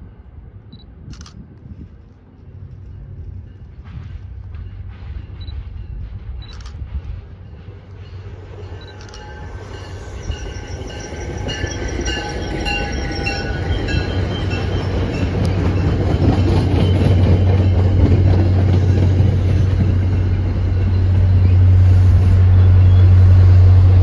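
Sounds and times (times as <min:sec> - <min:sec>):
train cars rolling: 0:01.7 - 0:24.0.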